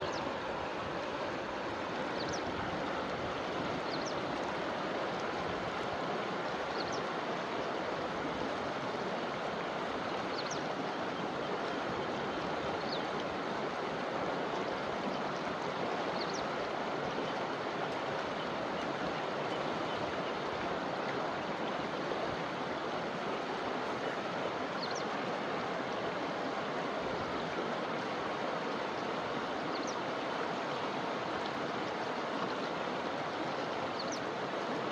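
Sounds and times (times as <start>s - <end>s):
river flowing over streambed: 0.0s - 34.9s.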